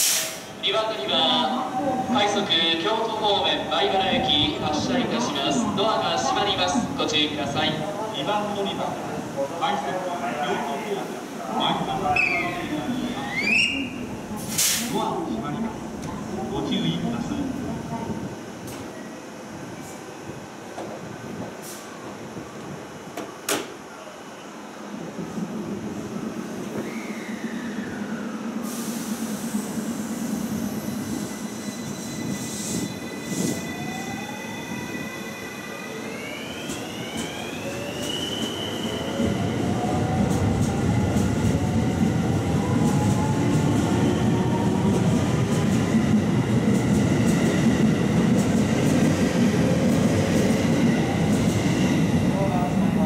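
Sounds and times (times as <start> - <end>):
rumble of wheels on rail: 0.0 - 53.0.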